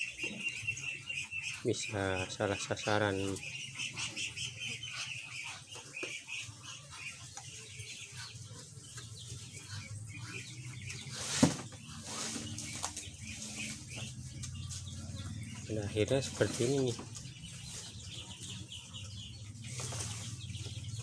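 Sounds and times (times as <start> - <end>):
birds calling: 0.0 - 21.0
chickens calling: 0.0 - 21.0.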